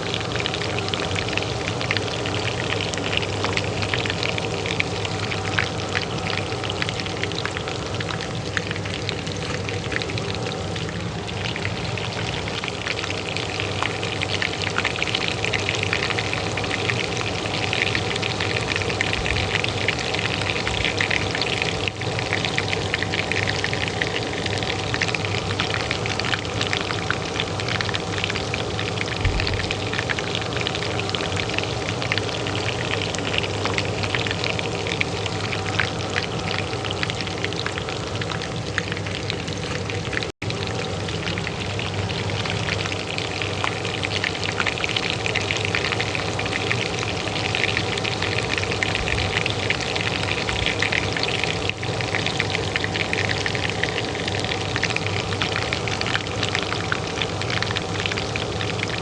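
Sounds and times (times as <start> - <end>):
oil frying in a pan: 0.0 - 59.0
range hood fan humming: 0.0 - 59.0.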